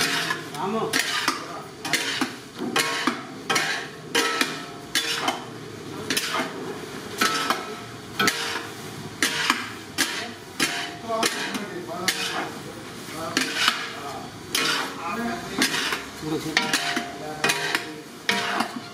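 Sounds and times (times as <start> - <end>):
steel spatulas clinking and scraping: 0.0 - 5.4, 6.1 - 6.6, 7.2 - 12.5, 13.3 - 15.0, 15.6 - 18.9.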